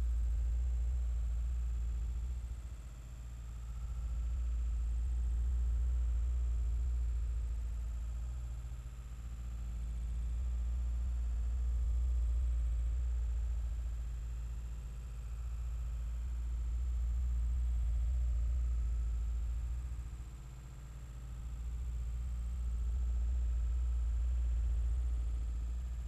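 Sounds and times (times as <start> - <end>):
faint high-pitched whine: 0.0 - 26.0.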